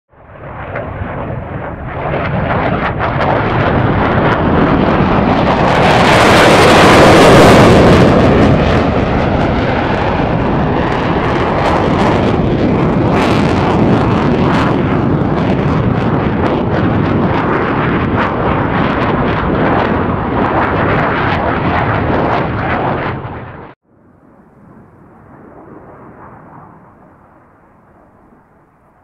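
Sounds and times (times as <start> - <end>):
fighter jet roaring overhead: 0.1 - 29.0.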